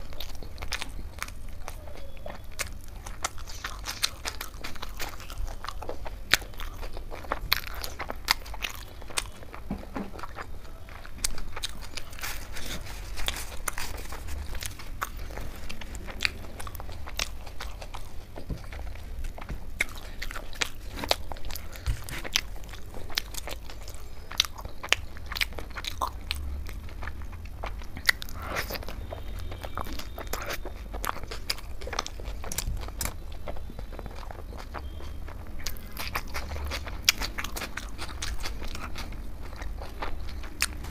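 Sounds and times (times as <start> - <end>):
chewing with wet mouth clicks: 0.0 - 40.9
crisp crunches: 0.0 - 40.9.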